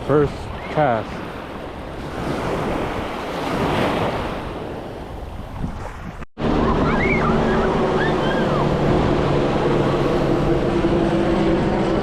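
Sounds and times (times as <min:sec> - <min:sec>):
ocean surf washing up beach: 0:00.0 - 0:12.0
wind buffeting microphone: 0:00.0 - 0:12.0.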